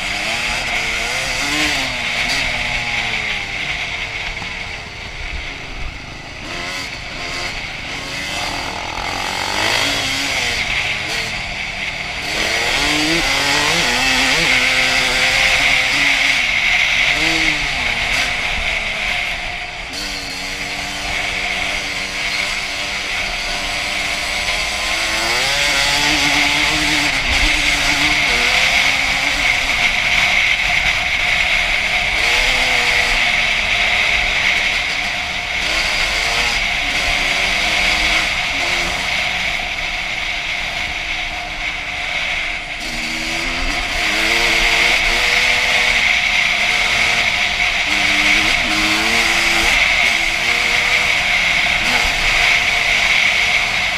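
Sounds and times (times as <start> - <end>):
two-stroke engine revving: 0.0 - 53.9.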